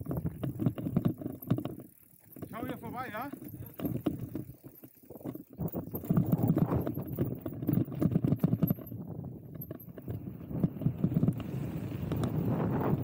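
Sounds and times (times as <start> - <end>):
bike tyres and frame rattling: 0.0 - 13.0.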